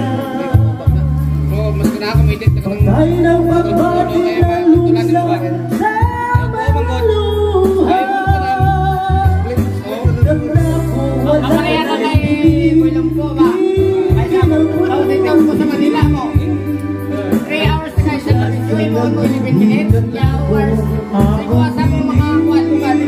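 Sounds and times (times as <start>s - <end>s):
backing track with bass line: 0.0s - 23.0s
man singing into a microphone: 0.0s - 23.0s.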